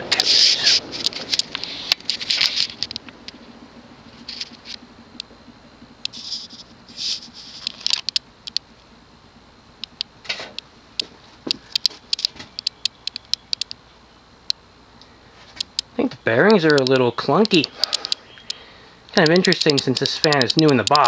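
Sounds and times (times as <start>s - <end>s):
fan bearings clicking and clunking: 0.0s - 8.8s, 9.8s - 13.8s, 15.4s - 21.0s
faint motor hum: 0.0s - 21.0s.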